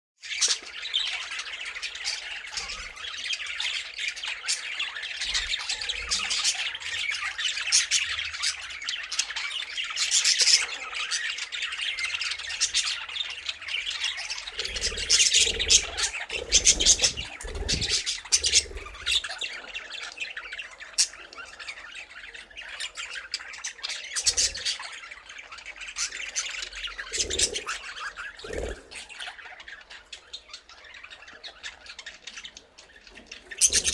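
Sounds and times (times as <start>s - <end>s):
budgerigars chattering and squawking: 0.2s - 33.9s.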